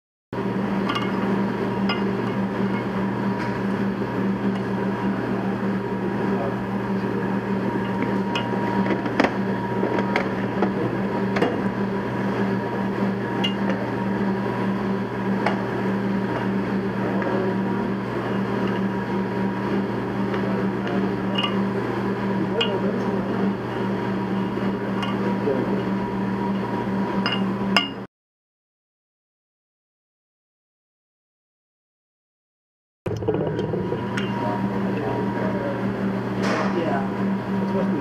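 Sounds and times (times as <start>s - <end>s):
low mechanical hum: 0.4s - 28.1s, 33.1s - 38.0s.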